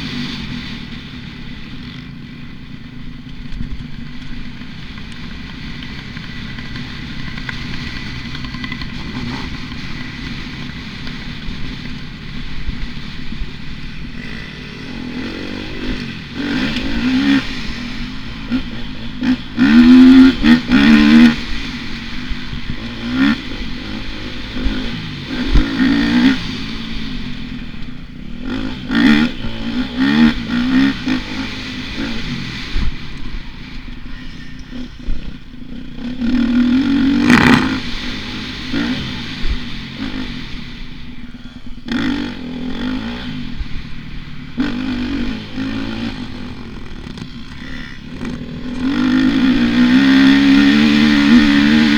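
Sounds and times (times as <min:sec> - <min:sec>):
dirt bike engine revving: 0:04.5 - 0:27.7, 0:28.3 - 0:33.7, 0:34.3 - 0:41.0, 0:41.9 - 0:51.9.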